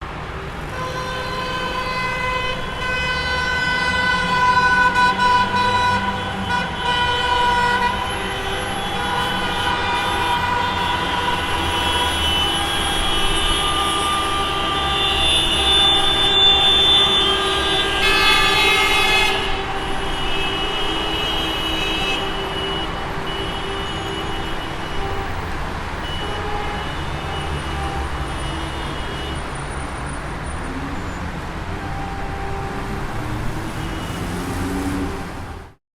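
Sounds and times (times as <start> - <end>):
car horns honking: 0.0 - 35.8
idling engines and traffic rumble: 0.0 - 35.8.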